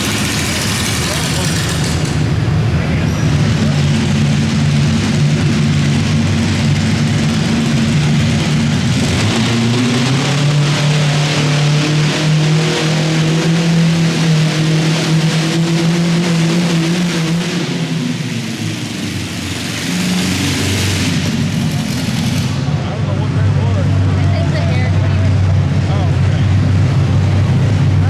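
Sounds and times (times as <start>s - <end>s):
tractor engine at high revs: 0.0s - 28.0s.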